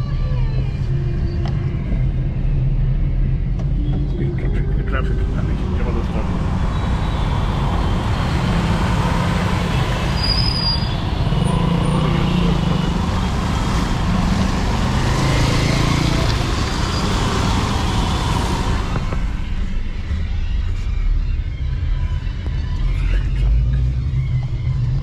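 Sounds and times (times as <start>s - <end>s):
traffic and road noise: 0.0s - 25.0s.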